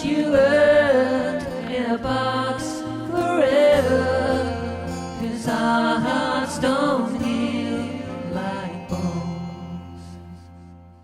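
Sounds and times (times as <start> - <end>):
person singing: 0.0 - 10.7.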